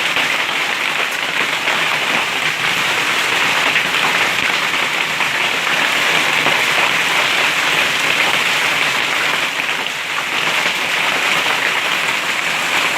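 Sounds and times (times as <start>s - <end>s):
hail and rain on hard surface: 0.0s - 12.9s.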